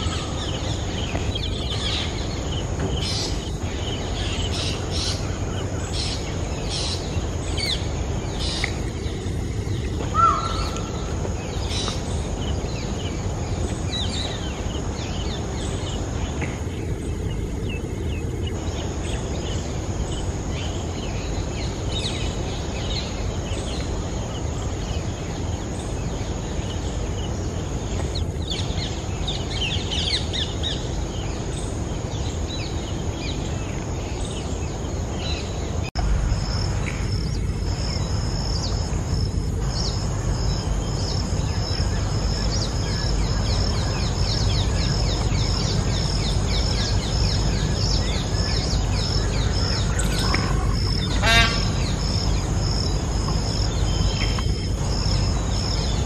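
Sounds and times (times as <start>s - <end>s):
high insect hum: 0.0s - 56.0s
low background noise: 0.0s - 56.0s
small birds chirping: 0.0s - 56.0s.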